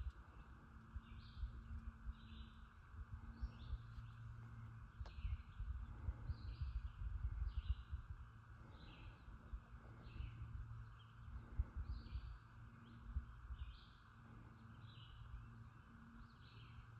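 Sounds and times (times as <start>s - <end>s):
bird chirping: 0.0s - 16.9s
low rumble: 0.0s - 16.9s.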